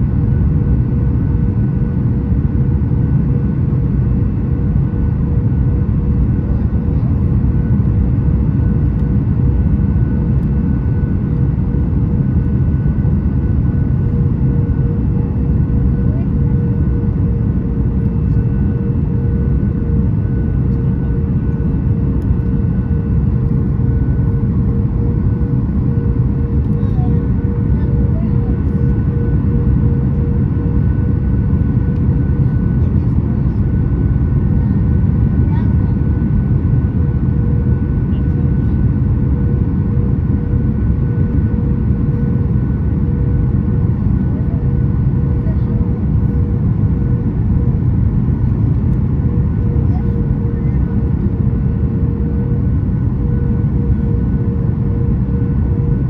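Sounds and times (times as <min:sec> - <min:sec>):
airliner cabin rumble and hum: 0:00.0 - 0:56.0.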